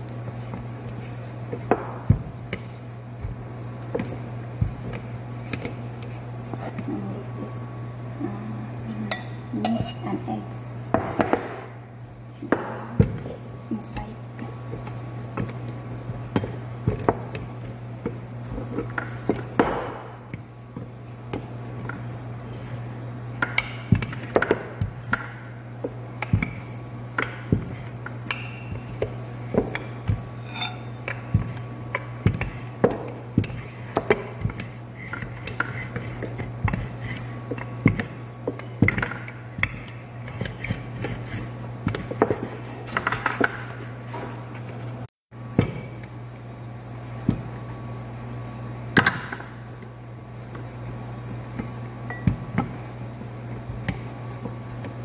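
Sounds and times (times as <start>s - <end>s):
rolling pin rolling dough: 0.0s - 6.9s, 11.4s - 55.0s
steady low hum: 0.0s - 55.0s.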